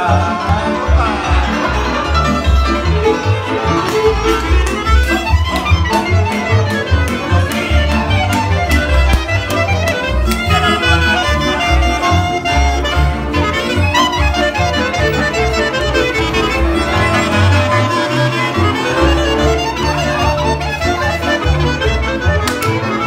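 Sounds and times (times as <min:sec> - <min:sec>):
band playing lively dance music: 0:00.0 - 0:23.0
violin: 0:00.0 - 0:23.0.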